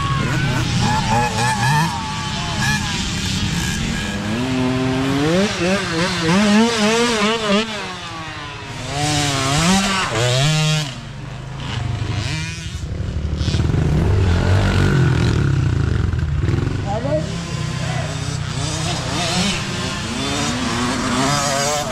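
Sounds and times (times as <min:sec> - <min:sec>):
dirt bike engines revving: 0:00.0 - 0:21.9.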